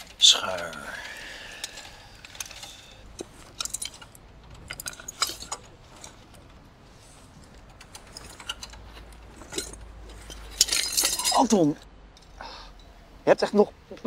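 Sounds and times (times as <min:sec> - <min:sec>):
metal hand tools clinking: 0:00.0 - 0:06.6, 0:07.2 - 0:13.0.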